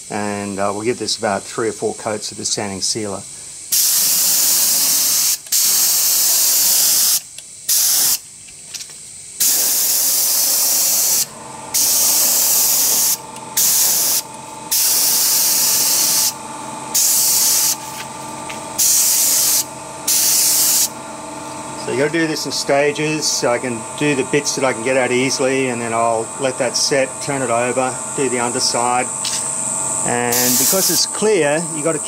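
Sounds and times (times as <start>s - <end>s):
faint steady hum: 0.0s - 32.0s
spray gun hissing: 3.7s - 8.3s, 9.4s - 32.0s.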